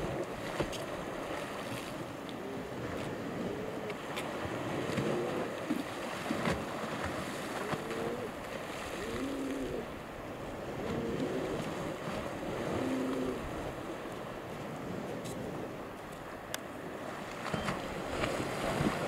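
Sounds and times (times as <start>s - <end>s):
sea waves washing on shore: 0.0s - 19.0s
wind: 0.0s - 19.0s.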